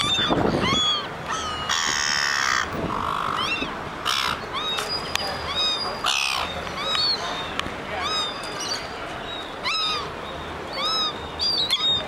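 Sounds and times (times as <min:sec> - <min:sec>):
gulls squawking: 0:00.0 - 0:12.0.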